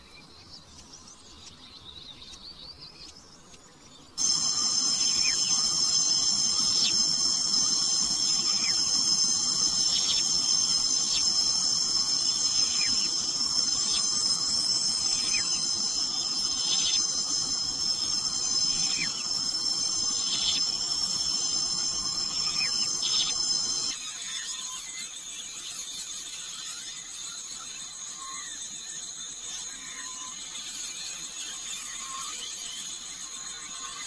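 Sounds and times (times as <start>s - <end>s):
insect chorus shrill trills: 4.2s - 34.0s.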